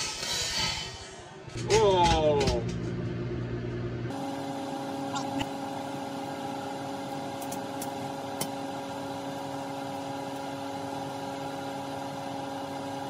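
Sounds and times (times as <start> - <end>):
microwave oven humming: 1.6 - 13.0.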